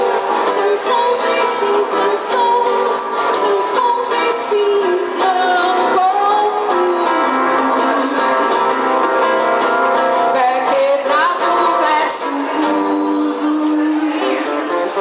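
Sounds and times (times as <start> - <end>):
person singing: 0.0 - 8.9, 10.1 - 15.0
acoustic guitar strumming: 0.0 - 15.0.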